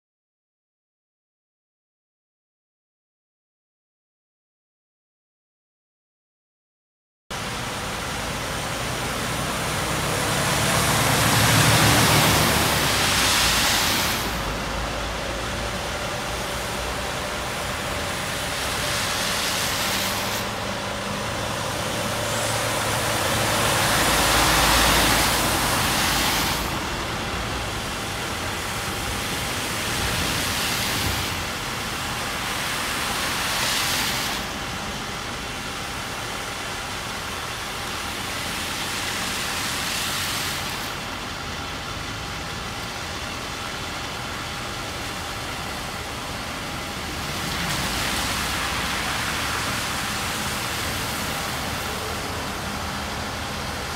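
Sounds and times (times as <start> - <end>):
cars splashing through floodwater: 7.4 - 53.9
heavy rain hissing: 7.4 - 53.9.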